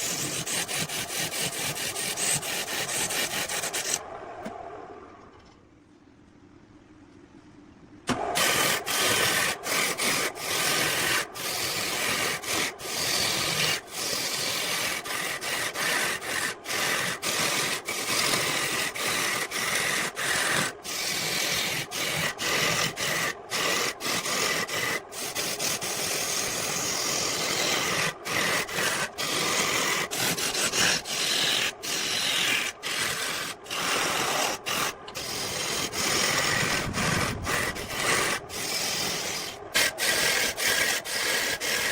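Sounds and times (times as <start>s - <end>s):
tool rasping on wood: 0.0s - 4.0s, 8.4s - 41.9s.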